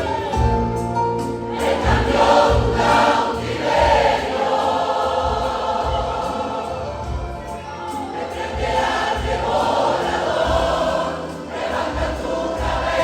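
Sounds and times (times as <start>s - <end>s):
church choir singing: 0.0s - 13.0s.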